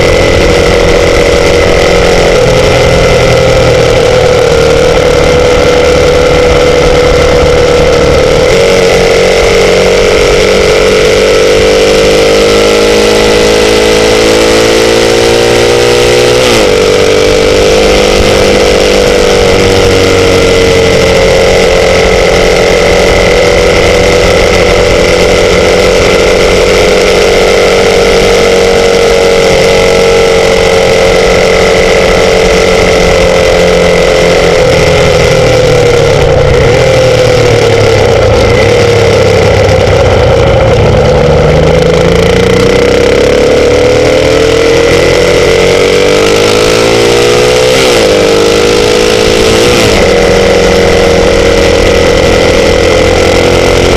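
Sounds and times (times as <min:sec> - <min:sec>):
high whine: 0:00.0 - 0:53.9
motorcycle engine running: 0:00.0 - 0:53.9.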